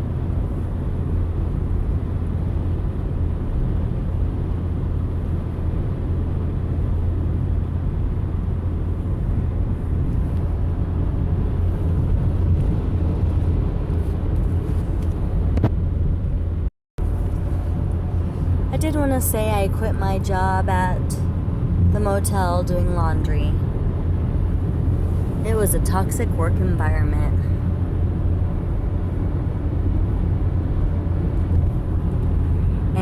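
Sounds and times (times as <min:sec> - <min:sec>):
car road and engine rumble: 0:00.0 - 0:33.0.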